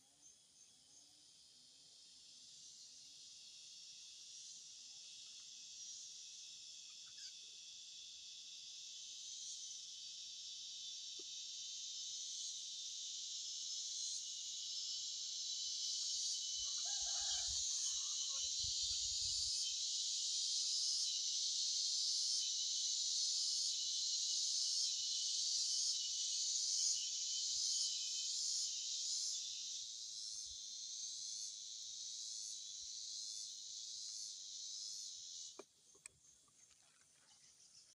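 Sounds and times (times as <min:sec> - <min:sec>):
insects buzzing: 0:00.0 - 0:37.9.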